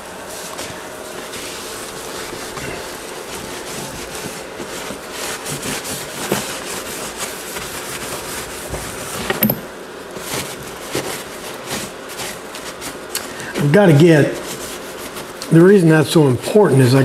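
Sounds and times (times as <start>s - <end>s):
wet rag rubbing on metal: 0.0s - 16.2s.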